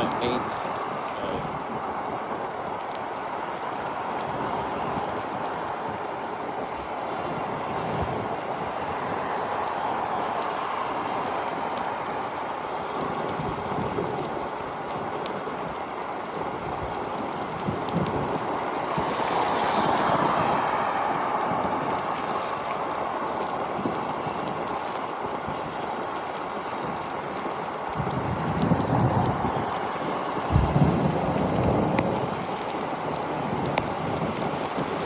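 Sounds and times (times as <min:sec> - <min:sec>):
wet road and rain noise: 0:00.0 - 0:35.0
wind rush on microphone: 0:00.0 - 0:35.0.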